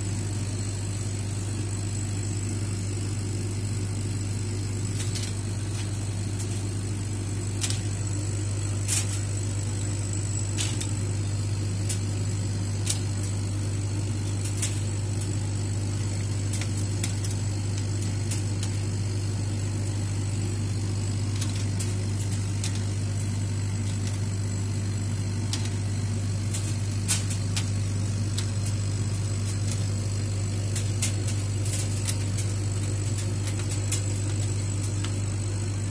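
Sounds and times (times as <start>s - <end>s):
low machine hum: 0.0s - 35.9s.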